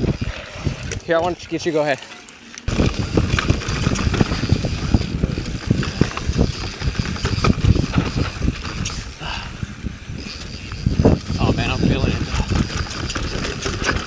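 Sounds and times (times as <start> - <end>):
bike knocking and rattling: 0.0 - 14.0
bike tyres rumbling on dirt: 2.7 - 14.0.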